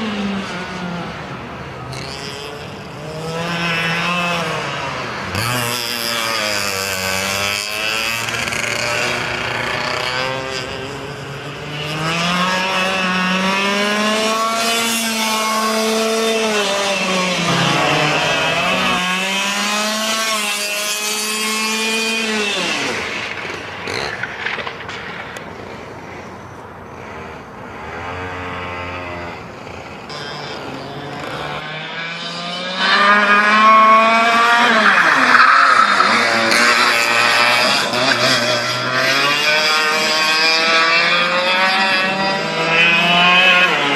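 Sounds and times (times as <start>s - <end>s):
kart two-stroke engine revving: 0.0s - 26.2s, 26.8s - 43.9s.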